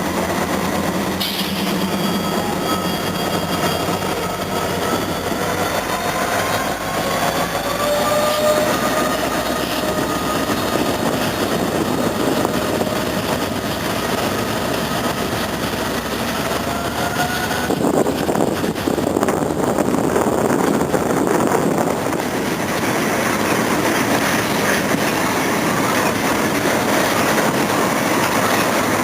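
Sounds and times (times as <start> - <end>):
train cars rumbling: 0.0 - 29.0.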